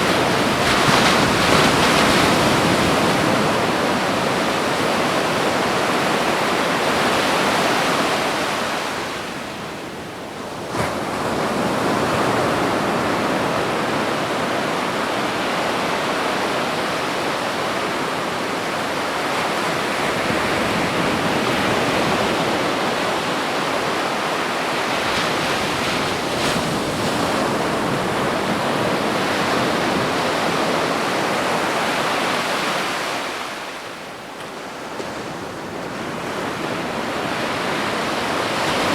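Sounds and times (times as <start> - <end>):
ocean surf washing: 0.0 - 38.9.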